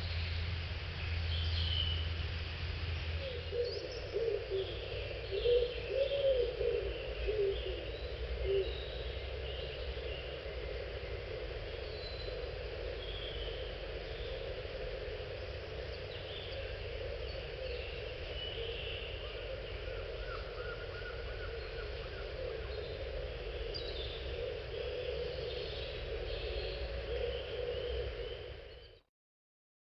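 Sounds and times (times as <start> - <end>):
small birds chirping: 3.0 - 29.0.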